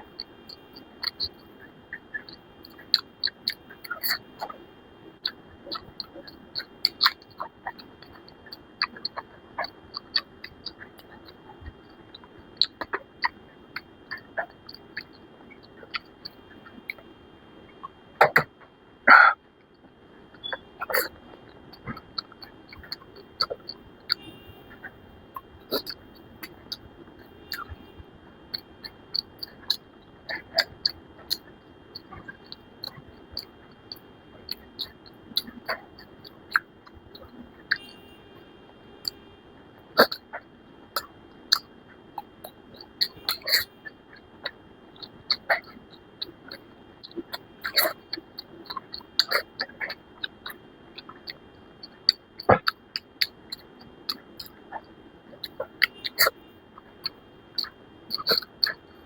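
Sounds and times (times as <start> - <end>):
chewing clicks: 0.0 - 4.6, 5.2 - 17.1, 17.8 - 38.0, 39.0 - 59.0.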